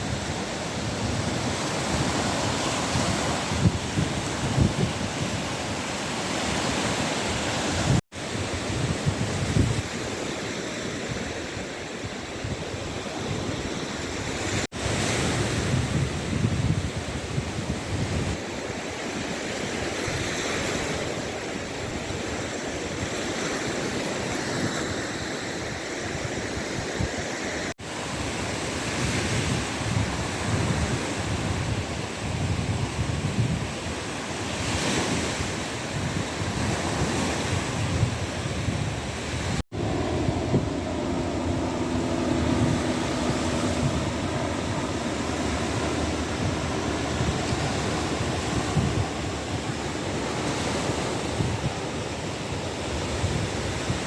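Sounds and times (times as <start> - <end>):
wind buffeting microphone: 0.0 - 25.0, 25.6 - 54.0
waves washing onto shore: 0.0 - 54.0.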